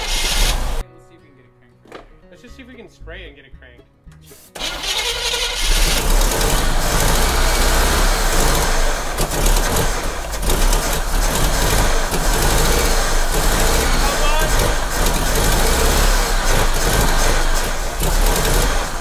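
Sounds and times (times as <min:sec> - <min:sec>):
engine cranking on starter: 0:00.0 - 0:00.8, 0:04.6 - 0:19.0.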